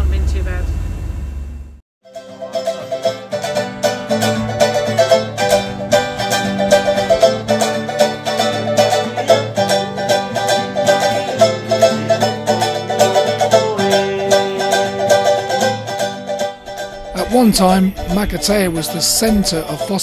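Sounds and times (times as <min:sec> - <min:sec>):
acoustic guitar strummed: 0:02.0 - 0:20.0
small ukulele strummed: 0:02.0 - 0:20.0.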